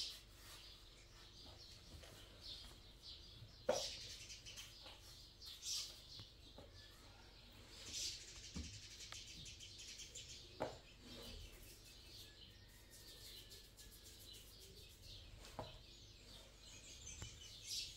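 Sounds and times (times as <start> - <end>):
faint bird chirping: 0.0 - 17.9.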